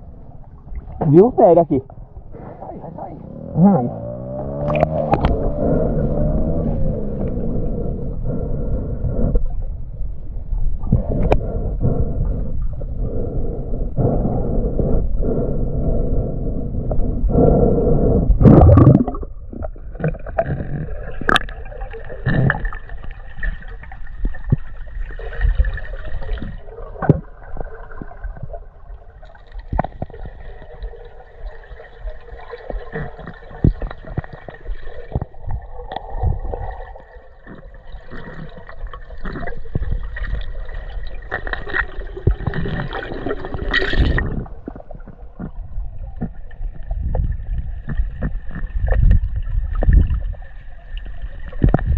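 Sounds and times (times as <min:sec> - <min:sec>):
surges of water noise: 0:00.0 - 0:08.4, 0:18.4 - 0:51.9
water gurgling and bubbling: 0:00.0 - 0:51.9.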